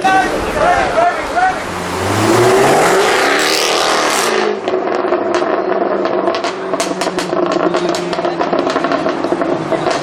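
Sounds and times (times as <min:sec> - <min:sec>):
car engine revving hard: 0:01.5 - 0:10.0.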